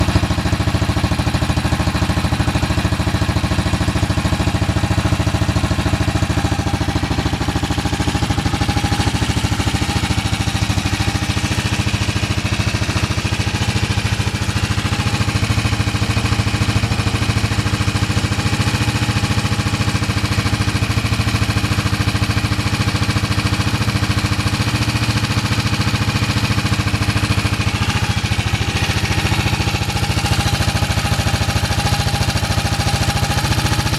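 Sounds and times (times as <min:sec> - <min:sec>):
single-cylinder motorcycle engine running: 0:00.0 - 0:33.9.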